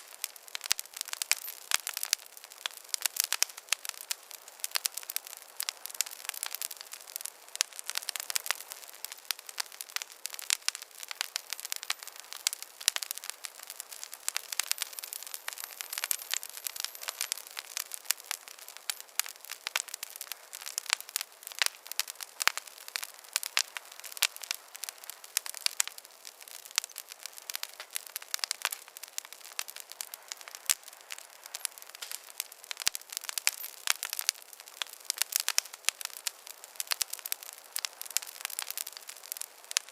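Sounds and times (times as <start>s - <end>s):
campfire crackling and snapping: 0.0s - 39.9s.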